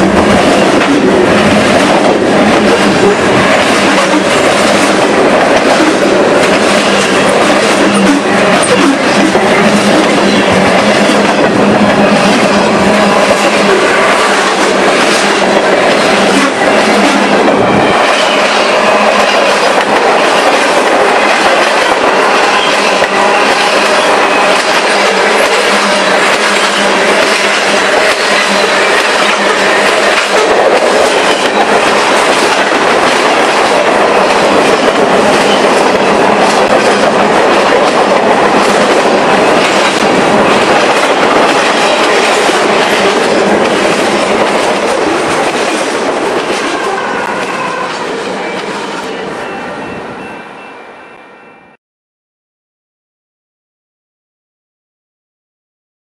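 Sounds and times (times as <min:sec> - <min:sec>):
steel wheels rushing on rail: 0:00.0 - 0:51.1.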